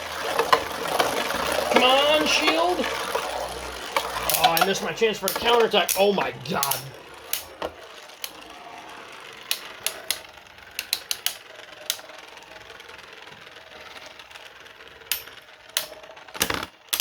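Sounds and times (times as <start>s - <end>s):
spinning tops clashing clacks: 0.0s - 17.0s
spinning tops whirring: 0.0s - 17.0s.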